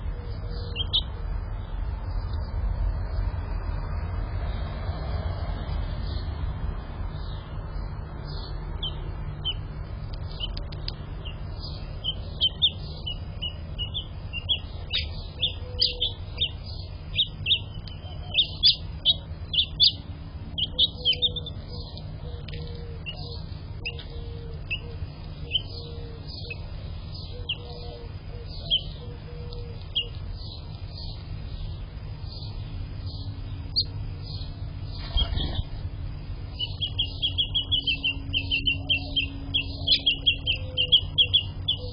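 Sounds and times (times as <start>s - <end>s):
finches chirping: 0.0s - 1.2s, 7.2s - 41.9s
low rumble: 0.0s - 41.9s.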